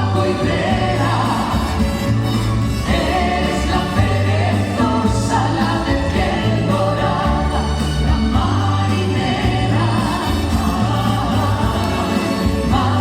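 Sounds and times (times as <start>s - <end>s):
band with steady bass line: 0.0s - 13.0s
vocal group singing in harmony: 0.0s - 13.0s.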